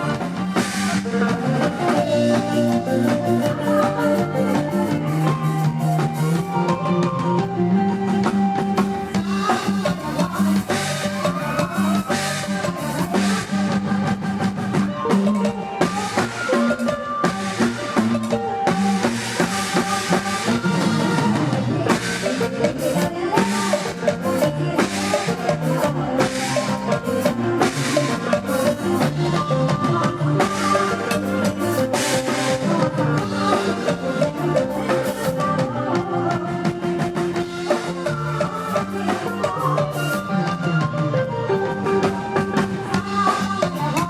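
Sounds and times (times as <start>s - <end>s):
drum kit steady beat: 0.0s - 44.0s
live band music: 0.0s - 44.0s.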